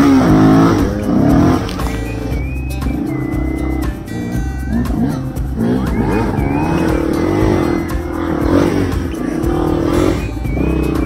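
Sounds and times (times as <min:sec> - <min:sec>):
background music with whistling: 0:00.0 - 0:11.0
dirt bike engine revving: 0:00.0 - 0:11.0.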